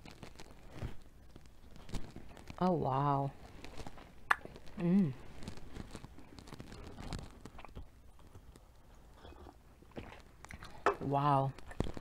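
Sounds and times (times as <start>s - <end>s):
chewing crisp crust: 0.0s - 12.0s.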